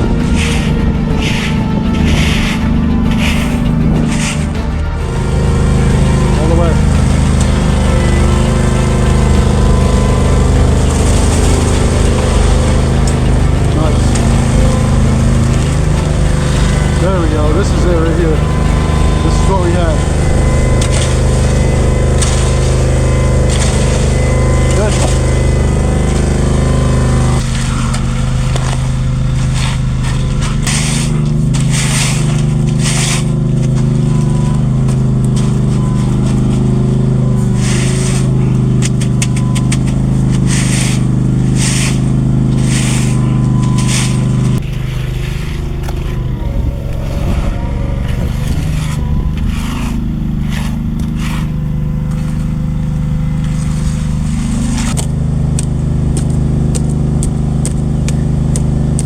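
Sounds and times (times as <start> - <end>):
short scrapes: 0.0 - 55.0
heavy engine running: 0.0 - 59.0.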